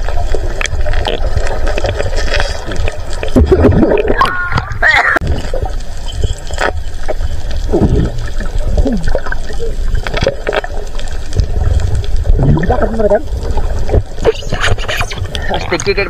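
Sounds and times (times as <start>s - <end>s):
low rumble of moving water: 0.0s - 16.0s
water sloshing and gurgling: 0.0s - 16.0s.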